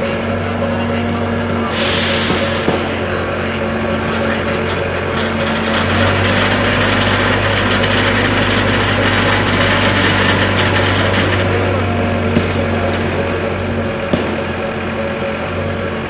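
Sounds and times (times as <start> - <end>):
train machinery humming: 0.0 - 16.0.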